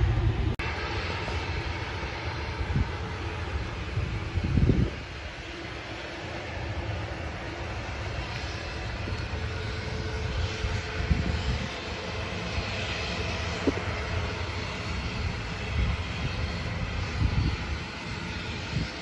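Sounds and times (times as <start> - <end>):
jet engine rushing and rumbling: 0.0 - 19.0.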